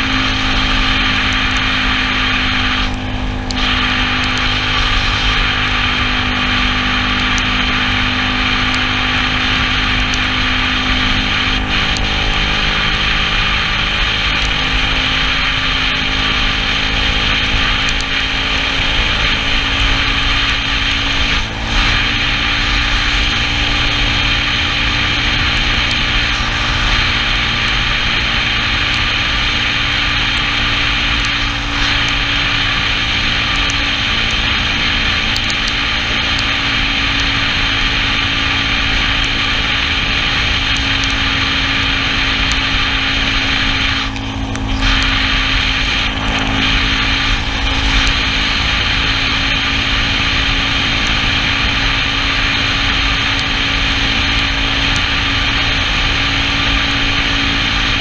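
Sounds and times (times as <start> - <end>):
scooter engine drone: 0.0 - 58.0
tyre hiss on wet road: 0.0 - 58.0
wind rushing over microphone: 0.0 - 58.0.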